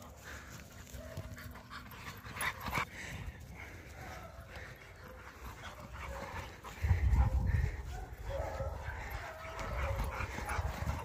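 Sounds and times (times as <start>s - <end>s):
dogs playing rough: 0.0s - 11.0s
dogs barking: 0.3s - 11.0s.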